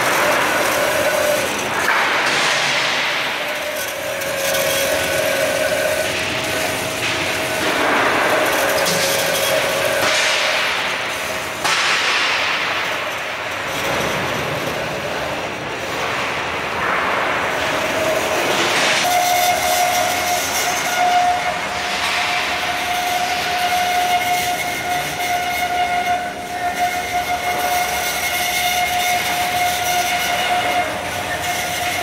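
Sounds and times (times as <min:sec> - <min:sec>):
machinery clatter: 0:00.0 - 0:32.0
steady machine whine: 0:00.0 - 0:32.0
steel bars on roller conveyors: 0:00.0 - 0:32.0.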